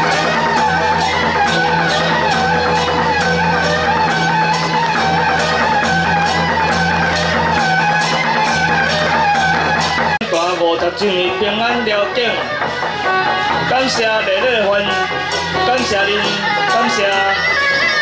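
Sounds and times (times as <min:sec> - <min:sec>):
processional music over loudspeakers: 0:00.0 - 0:18.0.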